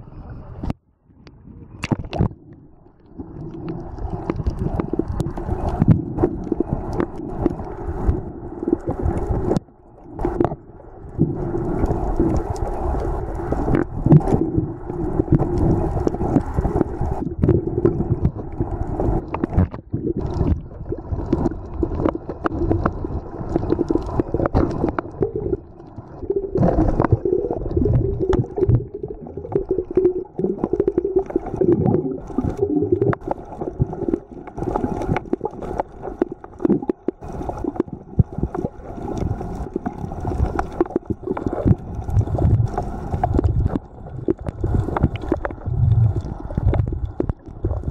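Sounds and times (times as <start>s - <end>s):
gurgling water: 0.0s - 47.9s
underwater water rumble: 0.0s - 47.9s.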